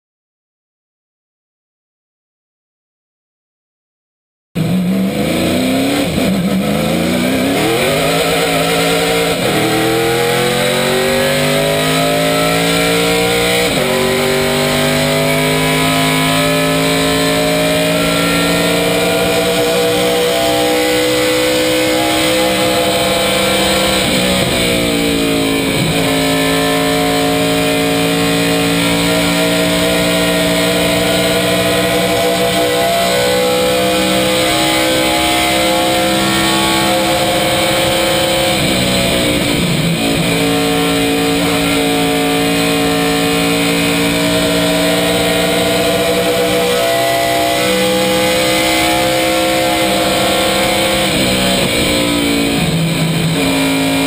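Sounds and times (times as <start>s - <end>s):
race car engine running hard: 4.6s - 54.0s.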